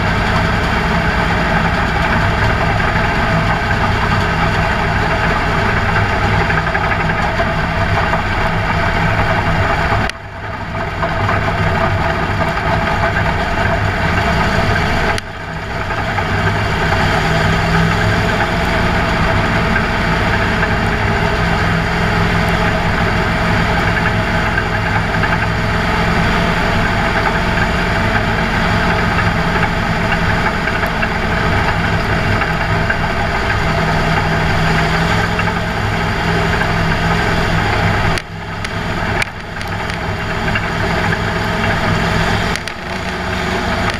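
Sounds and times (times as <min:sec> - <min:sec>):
race car engine running: 0:00.0 - 0:43.9.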